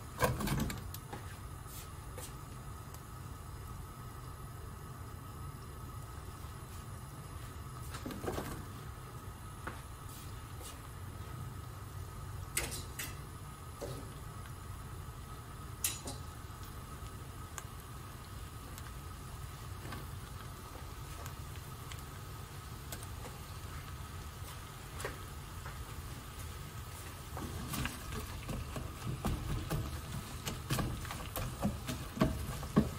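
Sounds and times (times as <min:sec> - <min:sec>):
stove low hum: 0:00.0 - 0:32.9.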